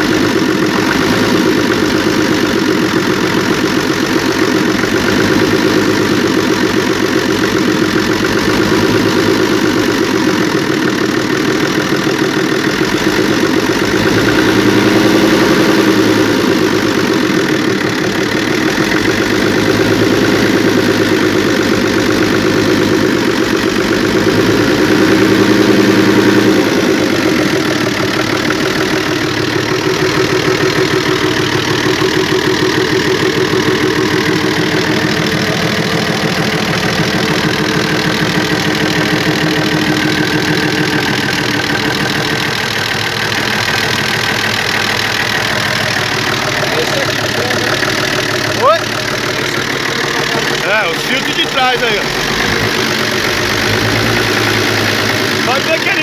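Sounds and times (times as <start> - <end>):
truck diesel engine idling: 0.0 - 56.0.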